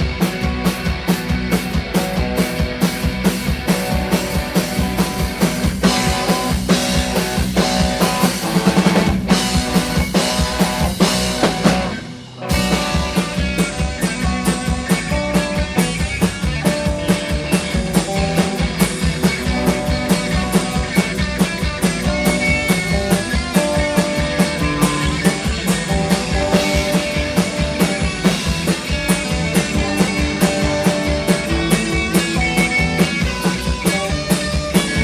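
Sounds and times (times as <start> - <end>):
held guitar notes: 0.0 - 35.0
live rock band playing: 0.0 - 35.0
steady drum beat: 0.0 - 35.0.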